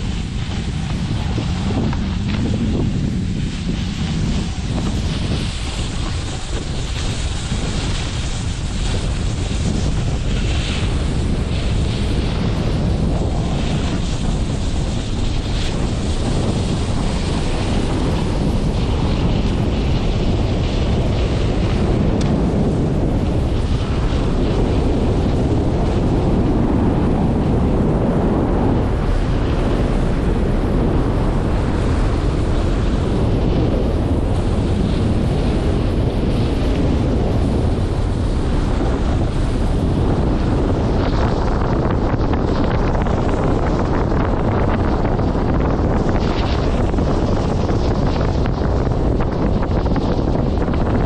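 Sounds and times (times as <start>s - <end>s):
snowboard scraping over snow: 0.0s - 51.0s
wind buffeting microphone: 0.0s - 51.0s.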